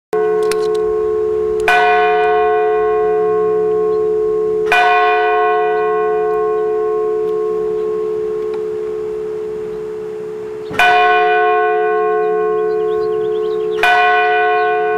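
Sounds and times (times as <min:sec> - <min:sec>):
church bells tolling: 0:00.2 - 0:14.9.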